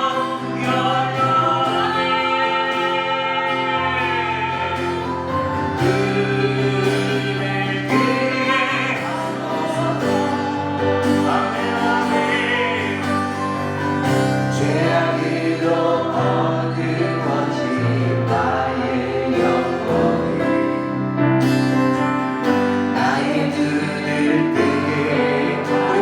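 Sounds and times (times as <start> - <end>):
group of voices singing: 0.0 - 26.0.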